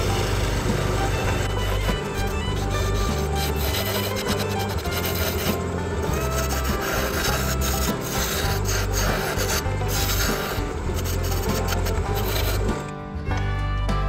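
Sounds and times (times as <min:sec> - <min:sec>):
lathe gouge scraping wood: 0:00.0 - 0:12.9
background music: 0:00.0 - 0:14.0.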